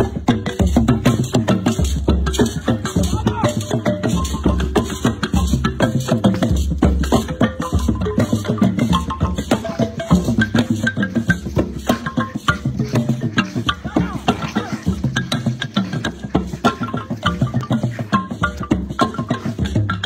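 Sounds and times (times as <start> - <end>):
fast percussive background music: 0.0 - 20.0.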